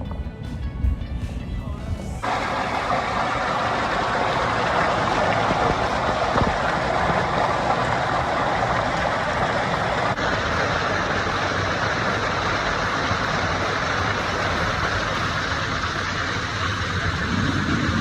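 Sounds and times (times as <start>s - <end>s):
waterfall roaring: 2.2s - 18.0s.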